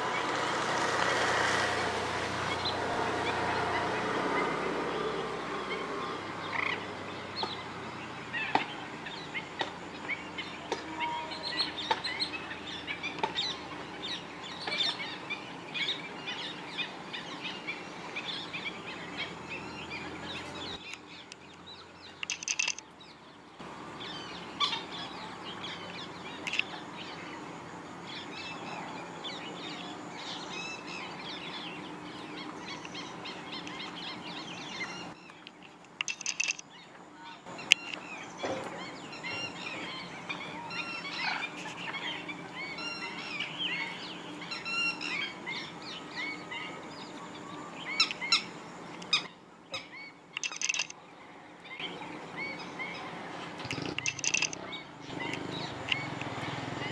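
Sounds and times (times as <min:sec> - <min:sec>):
flock of birds calling: 0:00.0 - 0:22.8, 0:23.7 - 0:56.9.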